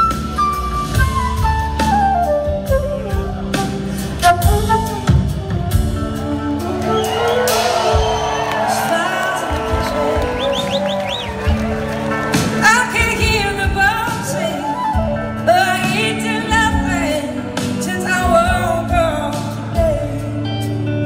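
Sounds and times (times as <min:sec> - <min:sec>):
electric guitar: 0:00.0 - 0:21.0
live rock band playing: 0:00.0 - 0:21.0.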